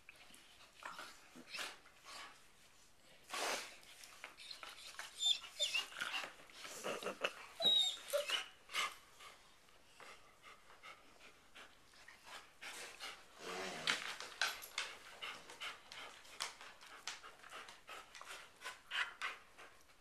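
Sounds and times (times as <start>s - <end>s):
dog panting: 3.9s - 20.0s.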